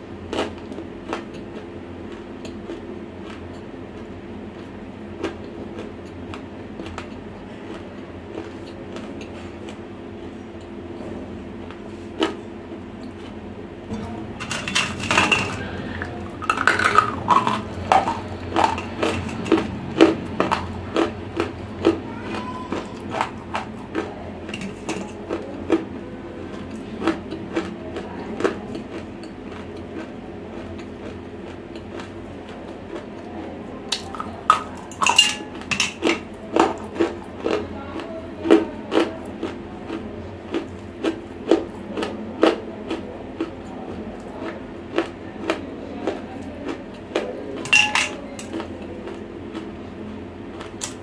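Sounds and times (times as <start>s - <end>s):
crunchy chewing: 0.2s - 10.9s, 15.2s - 51.0s.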